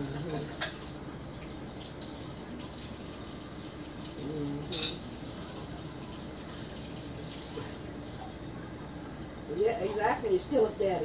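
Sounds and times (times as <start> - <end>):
kitchen tap running: 0.0 - 10.9.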